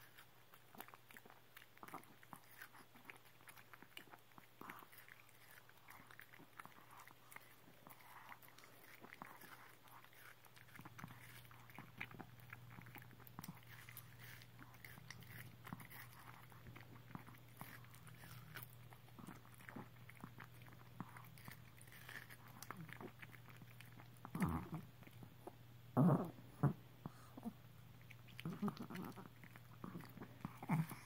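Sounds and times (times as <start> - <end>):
dog licking and chewing: 0.0 - 31.0
steady low hum: 0.0 - 31.0.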